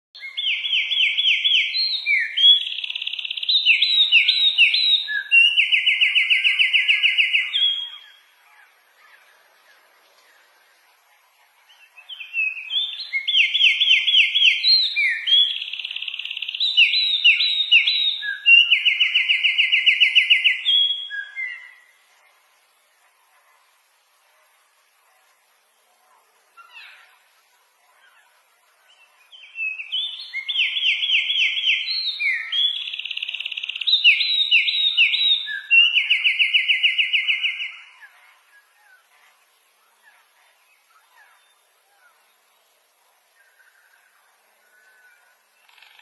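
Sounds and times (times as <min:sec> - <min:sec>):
songbird singing with trills: 0:00.2 - 0:46.0.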